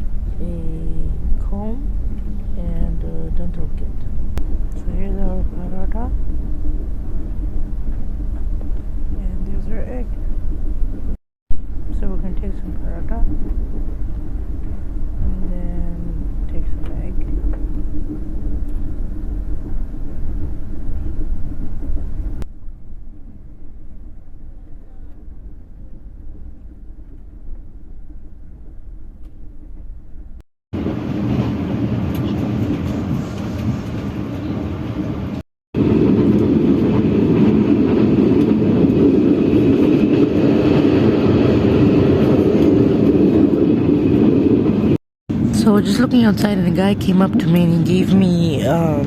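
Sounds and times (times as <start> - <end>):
train wheels rumbling on rail: 0.0 - 22.4, 24.2 - 48.4.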